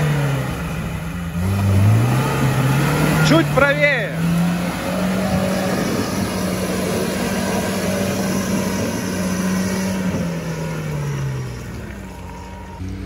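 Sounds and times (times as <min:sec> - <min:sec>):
car engine pulling under load: 0:00.0 - 0:13.0.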